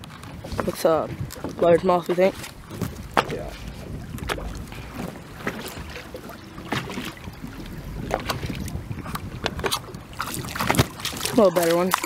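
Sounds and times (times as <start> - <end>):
water lapping against boat: 0.0 - 12.0
wind on microphone: 0.0 - 12.0.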